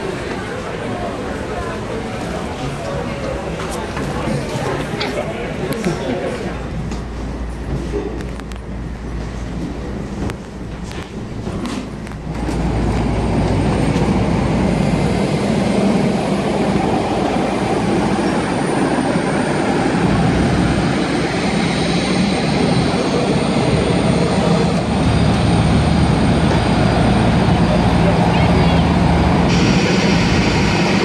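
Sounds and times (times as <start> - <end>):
aircraft turbine rumble and hiss: 0.0 - 31.0.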